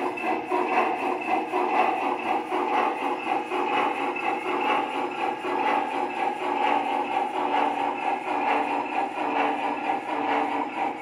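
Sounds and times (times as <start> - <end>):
model steam locomotive chuffing: 0.0 - 11.0.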